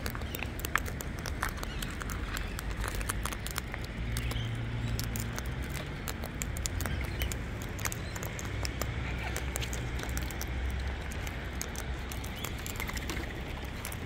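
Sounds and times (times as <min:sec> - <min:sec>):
beaks cracking seeds: 0:00.0 - 0:14.0.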